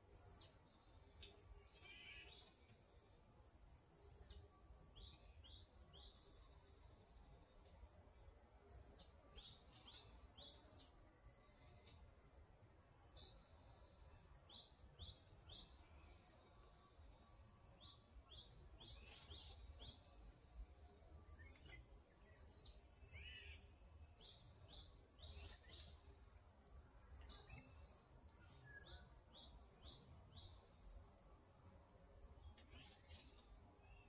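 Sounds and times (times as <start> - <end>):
faint woodland birdsong: 0.0 - 34.0.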